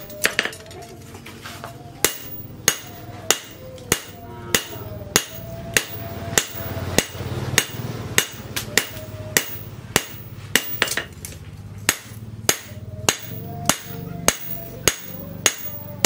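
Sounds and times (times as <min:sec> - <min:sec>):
hammer striking hot steel: 0:02.0 - 0:11.2, 0:11.8 - 0:16.0.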